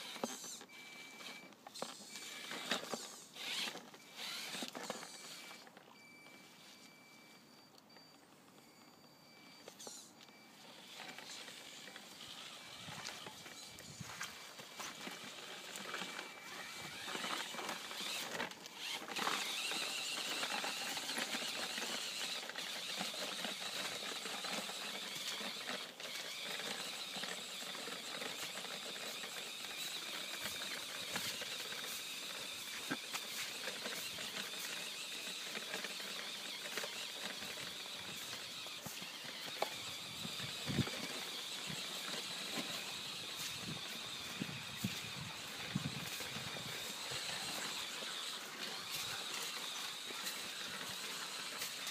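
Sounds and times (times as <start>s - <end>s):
small electric motor whining: 0.0s - 51.9s.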